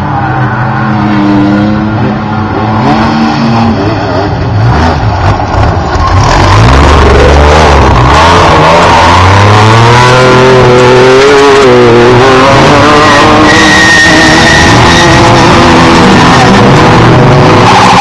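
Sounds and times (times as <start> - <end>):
race truck engines revving: 0.0 - 18.0.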